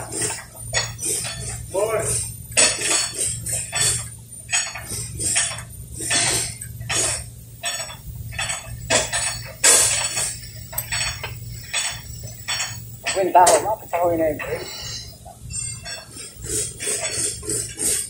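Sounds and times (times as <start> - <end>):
metal tools clinking and scraping: 0.0 - 18.0
steady low hum: 0.0 - 18.0.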